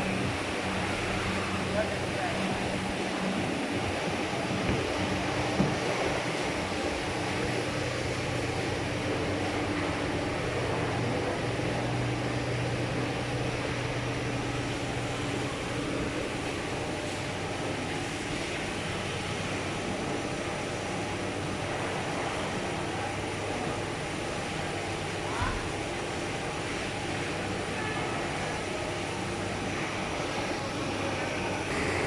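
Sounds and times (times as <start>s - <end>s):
mechanical noise with low hum: 0.0s - 32.0s.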